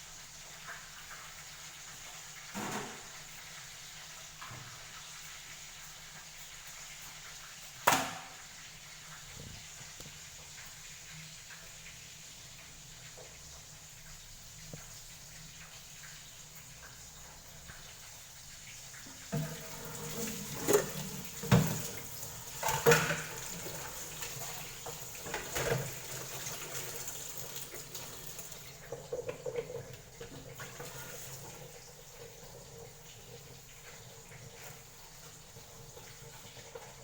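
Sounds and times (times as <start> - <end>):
water running from a tap: 0.0 - 37.0.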